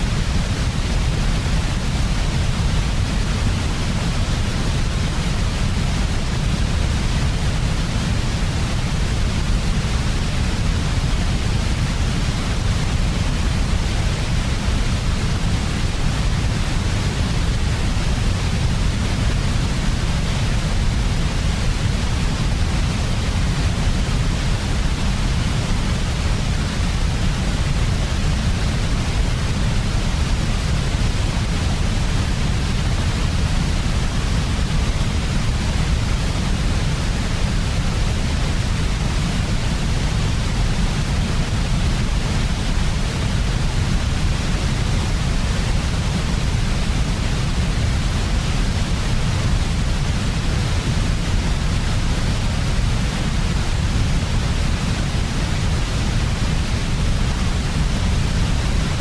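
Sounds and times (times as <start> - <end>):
low-weighted white noise: 0.0 - 59.0.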